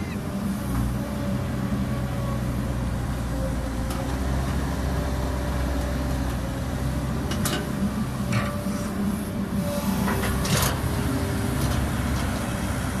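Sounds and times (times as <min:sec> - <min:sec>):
excavator diesel engine under load: 0:00.0 - 0:13.0.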